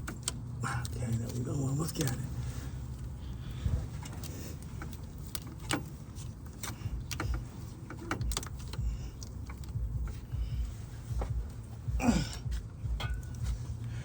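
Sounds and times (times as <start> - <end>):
light clicks and knocks of belt: 0.0 - 14.0
steady low hum: 0.0 - 14.0.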